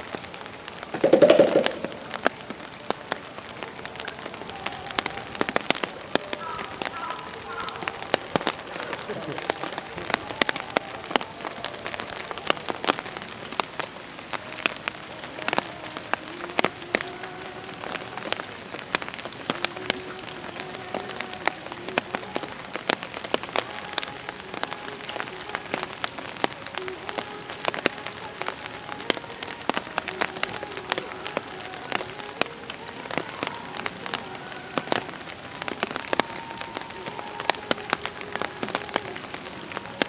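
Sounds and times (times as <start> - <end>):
sharp raindrop impacts: 0.0 - 40.0
steady rain falling: 0.0 - 40.0.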